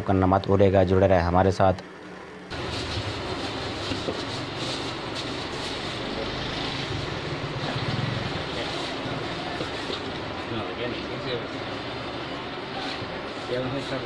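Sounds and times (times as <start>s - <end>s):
shop background hum and hiss: 0.0s - 14.0s.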